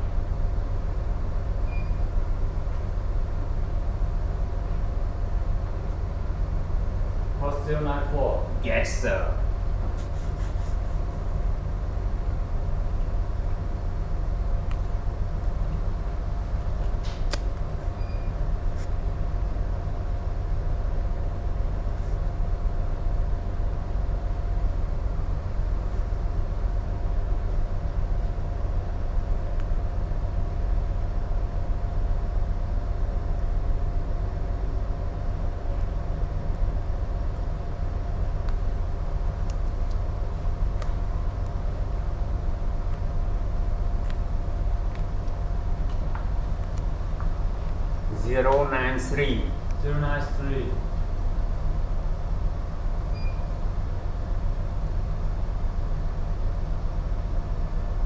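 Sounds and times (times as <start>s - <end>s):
constant mid-pitched hum: 0.0s - 58.0s
steady low rumble: 0.0s - 58.0s.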